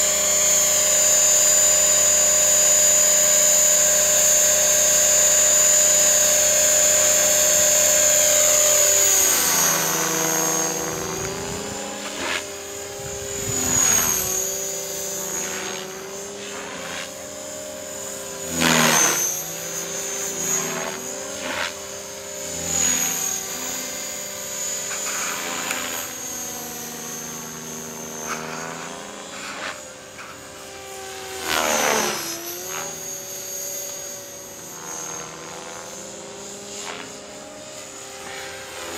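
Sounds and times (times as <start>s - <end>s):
model helicopter rotor and motor whine: 0.0s - 38.9s.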